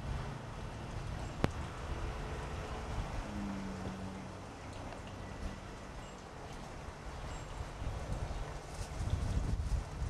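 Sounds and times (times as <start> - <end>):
faint outdoor hiss: 0.0 - 10.0
wind buffeting microphone: 0.0 - 10.0.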